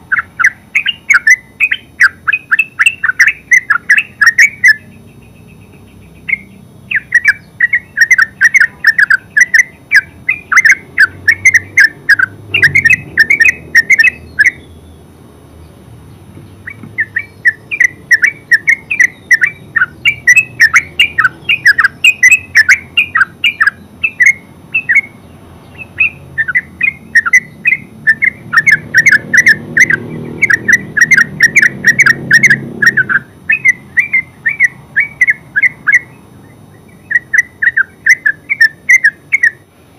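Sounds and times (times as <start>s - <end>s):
bird chattering song: 0.0s - 39.7s.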